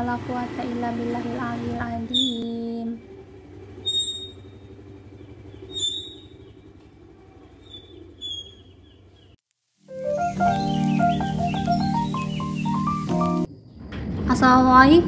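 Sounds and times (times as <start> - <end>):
scooter engine pulling away: 0.0 - 15.0.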